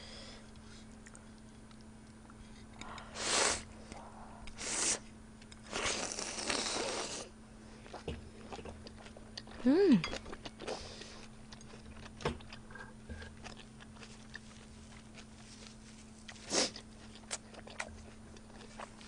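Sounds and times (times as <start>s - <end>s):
faint steady hum: 0.0s - 19.0s
person chewing: 0.5s - 19.0s.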